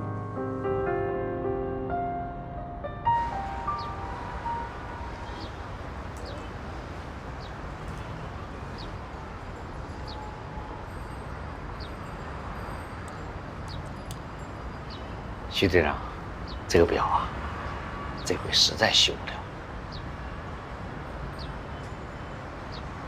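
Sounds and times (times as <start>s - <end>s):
hum of road traffic: 0.0s - 23.0s.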